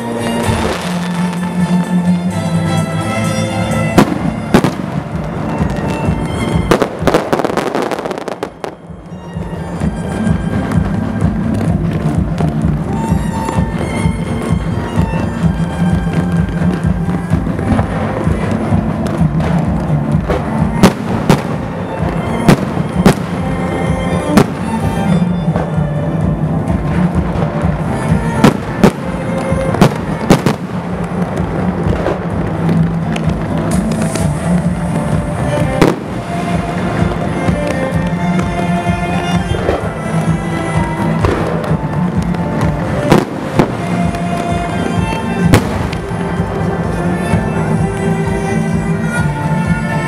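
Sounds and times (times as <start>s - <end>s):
fireworks bangs and crackles: 0.0s - 50.0s
music playing: 0.0s - 50.0s.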